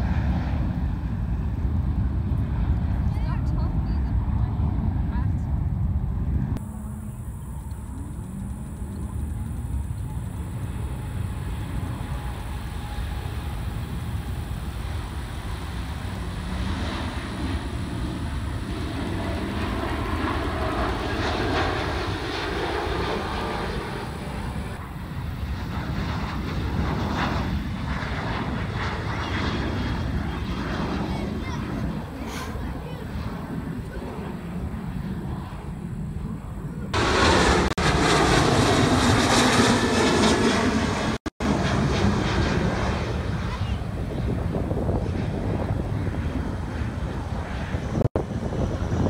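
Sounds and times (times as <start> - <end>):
jet engines at takeoff power: 0.0 - 49.0.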